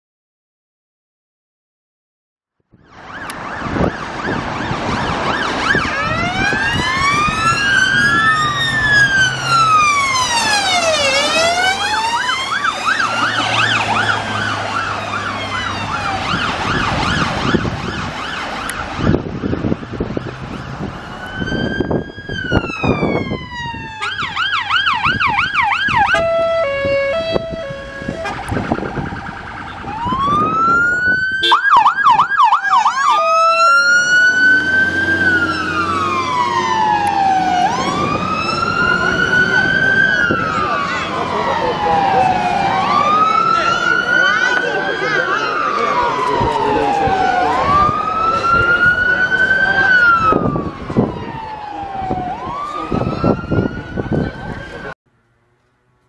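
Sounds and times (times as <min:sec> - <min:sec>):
emergency vehicle sirens: 0:02.7 - 0:55.0.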